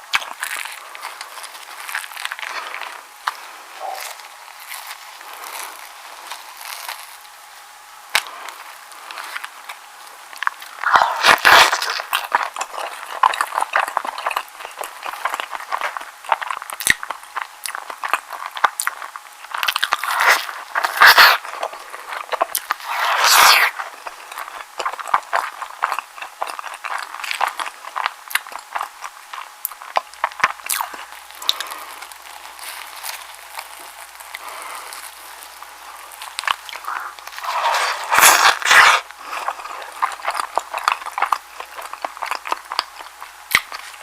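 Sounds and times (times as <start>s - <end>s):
chewing and biting sandwich: 0.0s - 44.0s.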